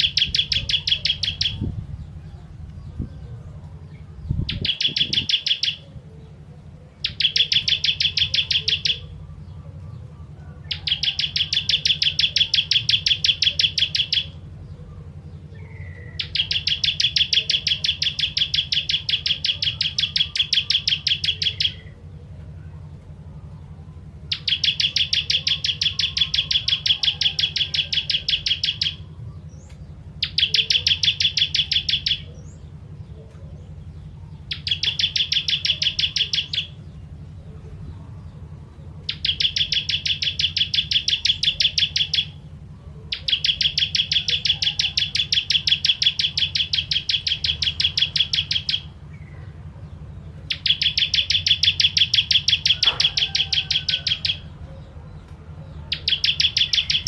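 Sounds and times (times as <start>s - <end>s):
bird singing rapid trill: 0.0s - 57.0s
steady low hum: 0.0s - 57.0s.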